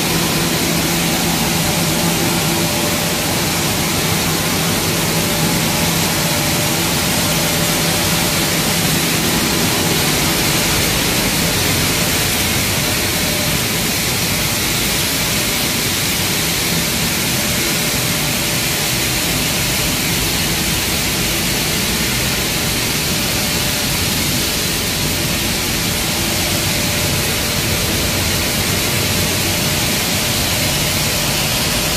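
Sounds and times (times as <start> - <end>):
milling machinery running: 0.0 - 31.9.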